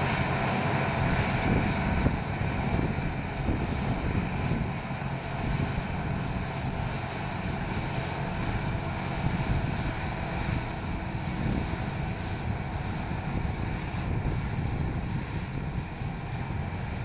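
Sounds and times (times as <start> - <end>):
tractor diesel engine running: 0.0 - 17.0
wind buffeting microphone: 0.0 - 17.0.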